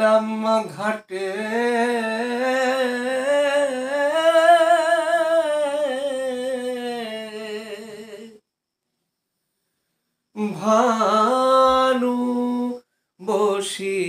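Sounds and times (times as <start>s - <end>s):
person singing unaccompanied: 0.0s - 8.4s, 10.3s - 14.0s.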